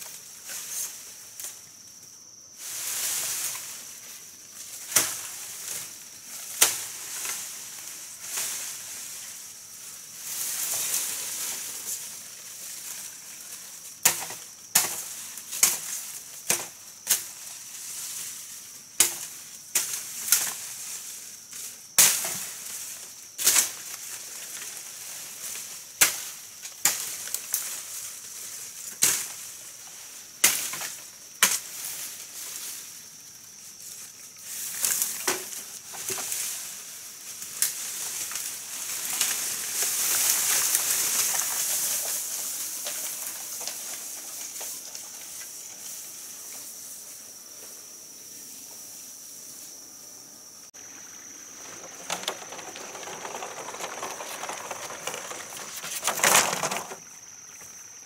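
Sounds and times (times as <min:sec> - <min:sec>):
steady high hiss: 0:00.0 - 0:58.0.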